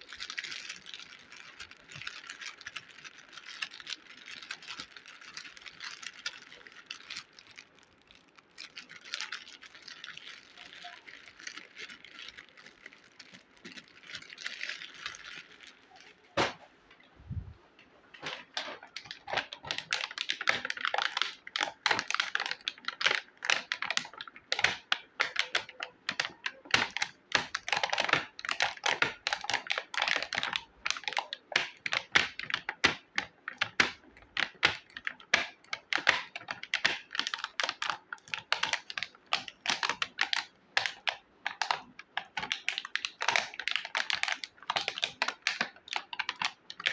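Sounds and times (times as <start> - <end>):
small plastic pieces clicking: 0.0 - 16.3, 18.5 - 46.9
packaging rustle: 0.0 - 16.6, 18.2 - 46.9.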